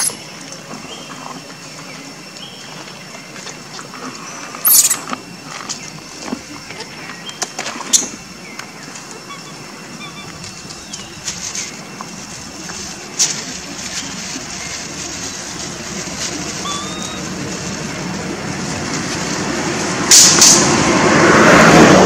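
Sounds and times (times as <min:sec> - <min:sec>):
vehicle engine: 0:00.0 - 0:22.0.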